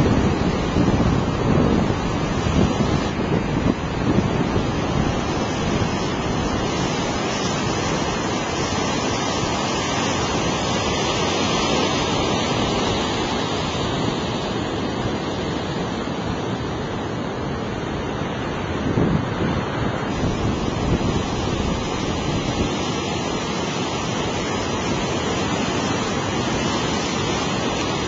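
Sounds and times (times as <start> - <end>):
breaking surf: 0.0 - 28.0
wind on microphone: 0.0 - 28.0.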